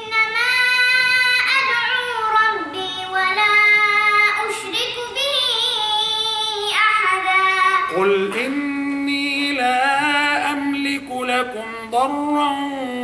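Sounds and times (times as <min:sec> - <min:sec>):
boy chanting melodically: 0:00.0 - 0:13.0.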